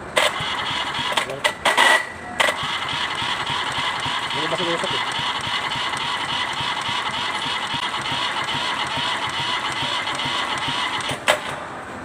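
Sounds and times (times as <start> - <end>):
diesel engine cranking: 0.0 - 12.0.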